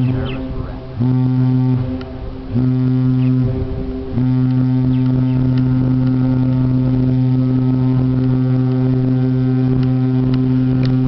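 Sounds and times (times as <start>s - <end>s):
ship horn long blast: 0.0s - 11.0s.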